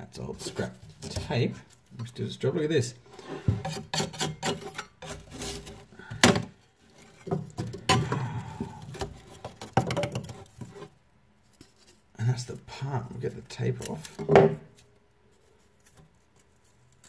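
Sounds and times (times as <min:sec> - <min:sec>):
wood and metal clicks and scrapes: 0:00.4 - 0:02.1, 0:03.1 - 0:17.0.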